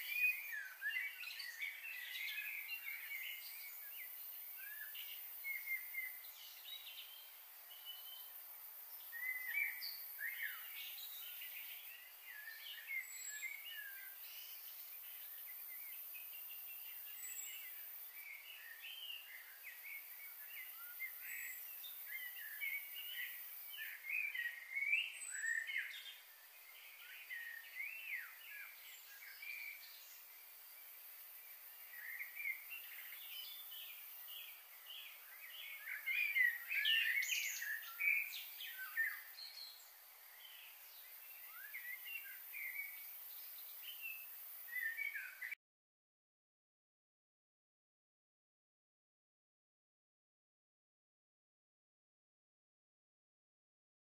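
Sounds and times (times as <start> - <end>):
small birds chirping: 0.0 - 45.6
steady high hiss: 0.0 - 45.6.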